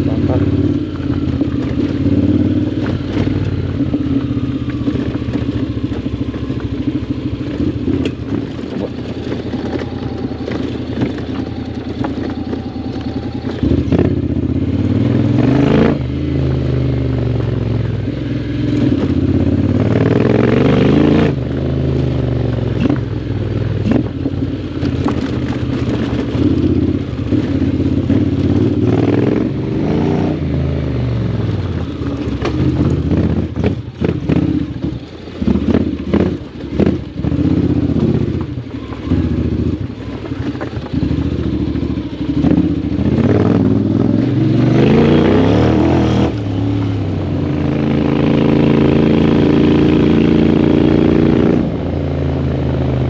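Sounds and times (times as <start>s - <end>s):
motorcycle engine riding along: 0.0s - 53.0s.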